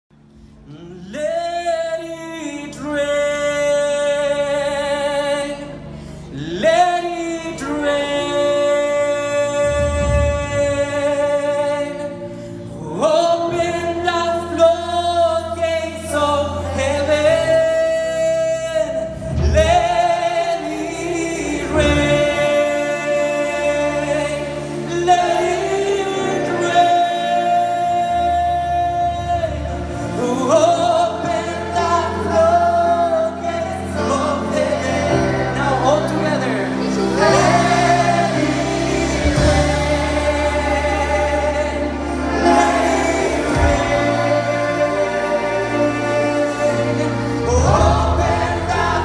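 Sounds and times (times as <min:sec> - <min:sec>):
steady musical accompaniment: 0:00.1 - 0:49.0
man singing into microphone: 0:00.7 - 0:49.0
group singing worship song: 0:00.8 - 0:49.0.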